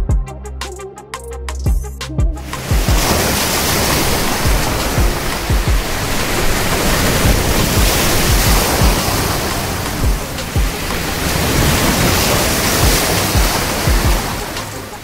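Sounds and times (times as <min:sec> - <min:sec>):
sea waves surging on shore: 0:02.5 - 0:15.0.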